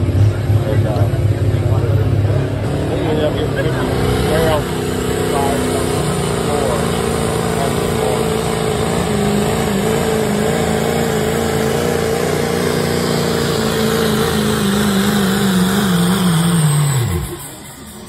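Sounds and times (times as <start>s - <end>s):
diesel engine at full throttle: 0.0s - 18.0s.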